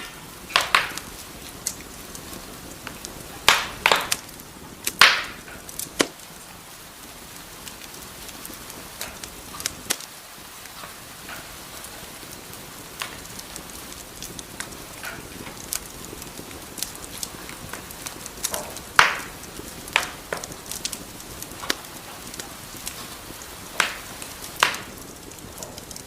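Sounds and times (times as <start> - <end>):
soft steady hiss: 0.0 - 26.0
wood fire crackling: 0.0 - 26.0.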